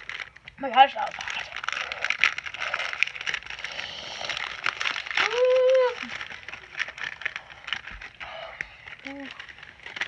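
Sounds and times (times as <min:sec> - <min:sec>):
snack packet crinkling: 0:00.0 - 0:10.0.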